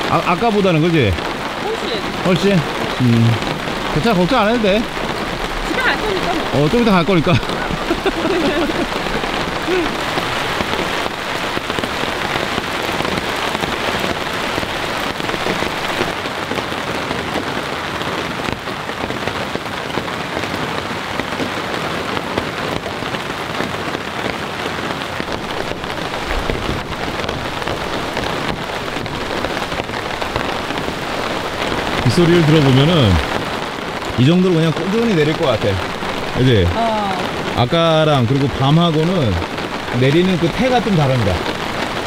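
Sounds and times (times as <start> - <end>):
rain on a tarp: 0.0 - 42.0.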